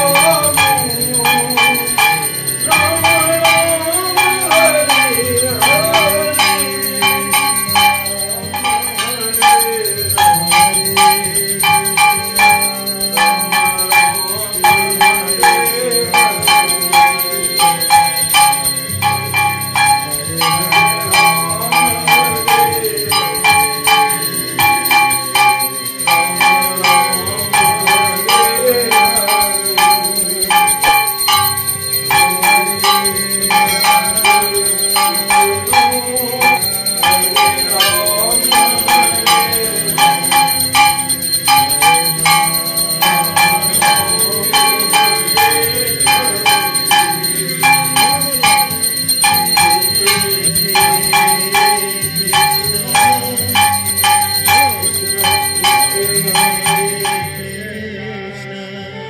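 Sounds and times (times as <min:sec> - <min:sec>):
brass hand bell ringing rapidly: 0:00.0 - 0:57.6
devotional music: 0:00.0 - 0:59.0.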